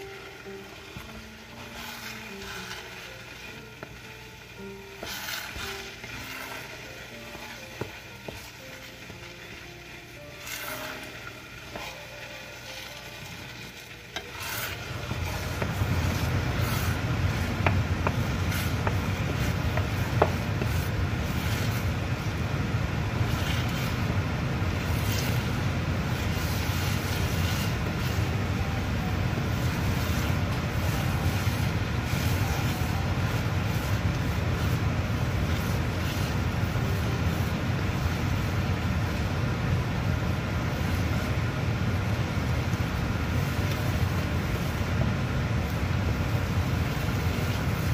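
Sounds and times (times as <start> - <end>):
wooden spatula scraping pan: 0.0 - 41.4.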